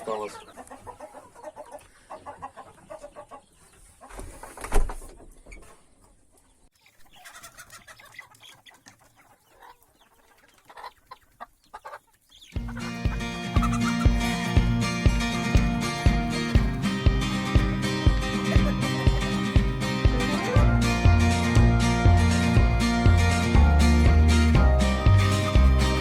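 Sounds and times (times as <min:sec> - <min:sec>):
hens and chicks clucking: 0:00.0 - 0:26.0.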